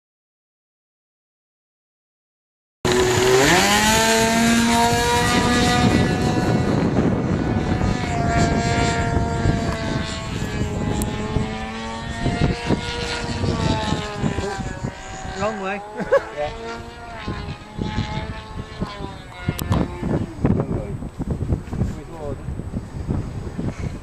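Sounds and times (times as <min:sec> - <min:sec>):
model aircraft motor whining: 0:02.9 - 0:24.0
wind rumble on microphone: 0:02.9 - 0:24.0.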